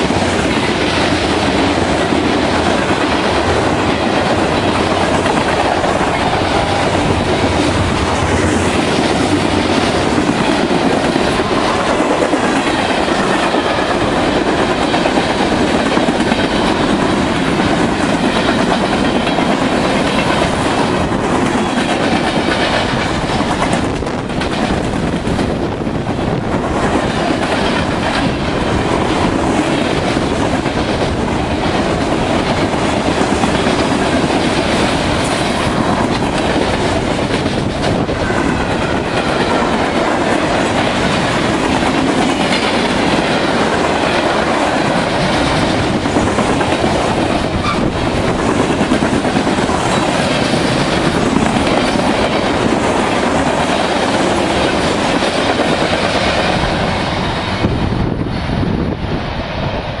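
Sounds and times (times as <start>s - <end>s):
freight train wheels on rails: 0.0s - 60.0s.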